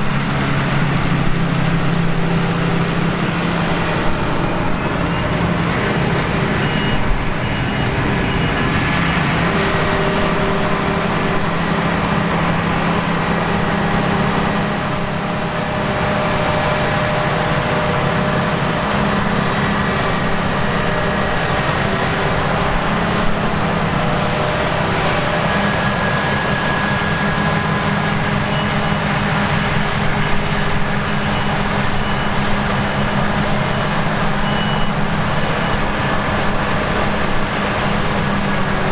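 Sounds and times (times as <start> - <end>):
combine harvester engine drone: 0.0 - 38.9
whir of threshing machinery: 0.0 - 38.9.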